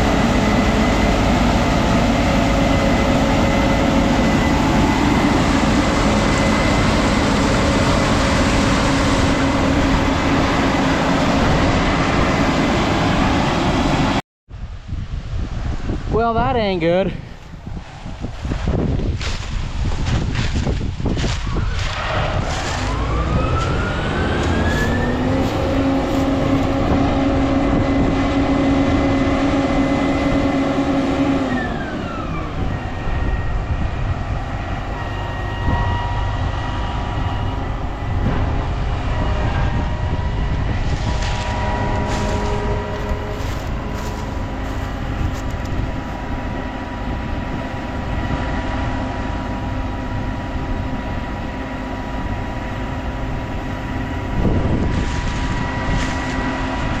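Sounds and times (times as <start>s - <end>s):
machine rumble: 0.0s - 16.1s, 17.1s - 57.0s
combine harvester whine: 0.0s - 57.0s.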